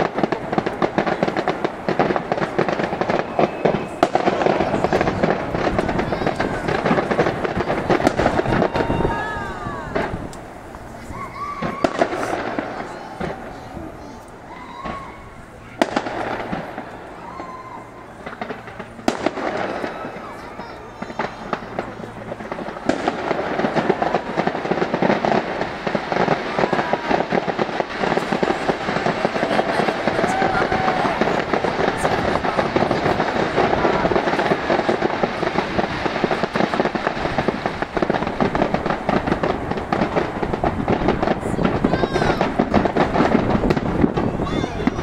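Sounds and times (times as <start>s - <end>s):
fireworks crackling and banging: 0.0s - 45.0s.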